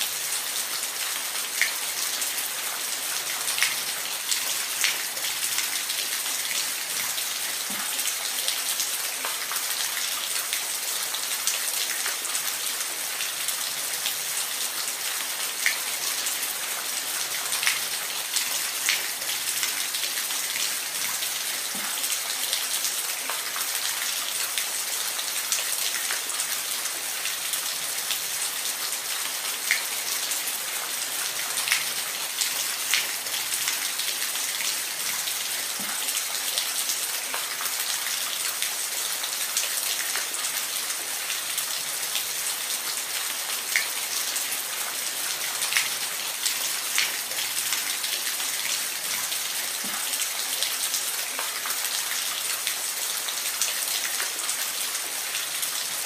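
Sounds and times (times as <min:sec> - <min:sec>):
water splashes and drips: 0:00.0 - 0:56.0.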